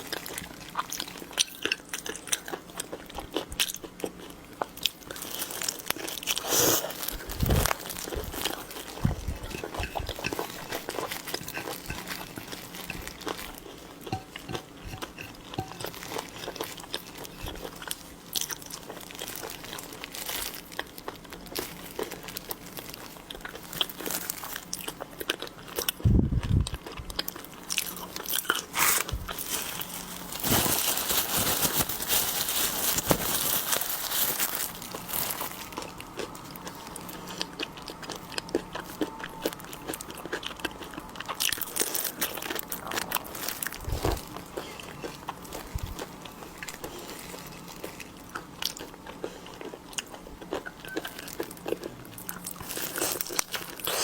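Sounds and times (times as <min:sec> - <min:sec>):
crunching and chewing seafood: 0:00.0 - 0:54.0.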